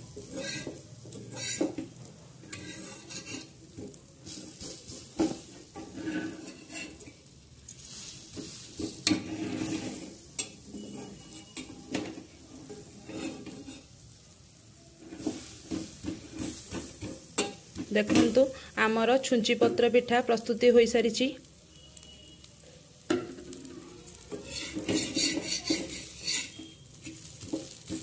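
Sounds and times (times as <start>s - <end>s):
metal spatula scraping on iron pan: 0.0s - 14.1s, 15.0s - 18.7s, 23.0s - 28.0s
light sizzle: 0.0s - 28.0s.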